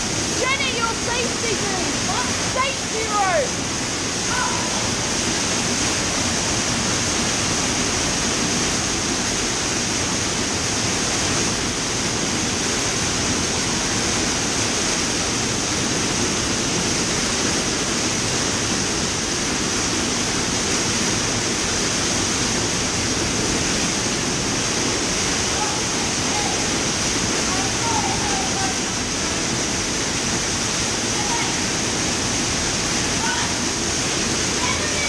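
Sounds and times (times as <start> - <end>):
waterfall splashing into pool: 0.0 - 35.0.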